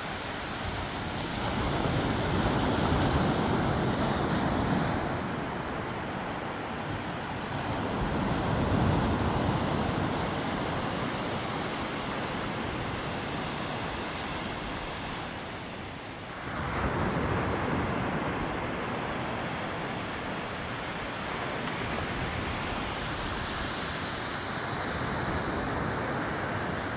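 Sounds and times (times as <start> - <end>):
waves breaking on sandy beach: 0.0 - 26.9.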